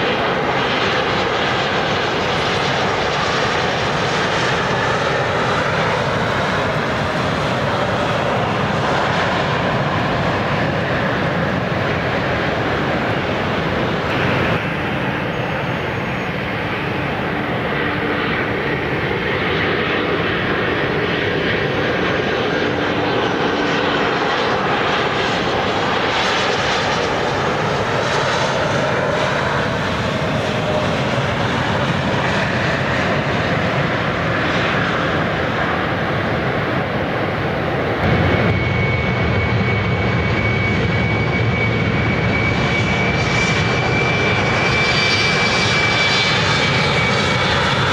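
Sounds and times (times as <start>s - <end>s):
high-pitched jet engine whine: 0.0s - 47.9s
jet engines roaring: 0.0s - 47.9s.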